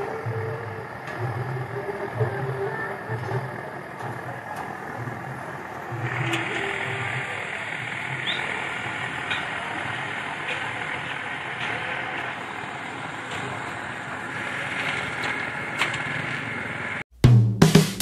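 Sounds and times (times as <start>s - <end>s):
road traffic passing: 0.0s - 17.1s.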